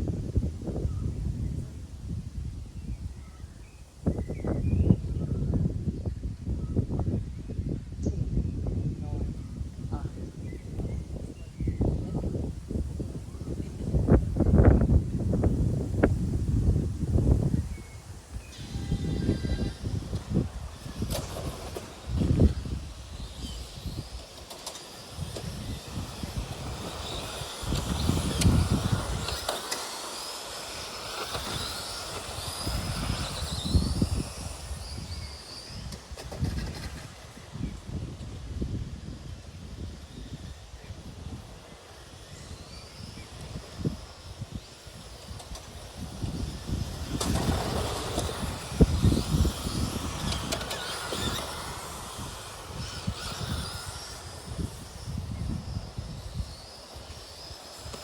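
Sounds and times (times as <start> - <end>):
electric motors whining: 9.2 - 58.0.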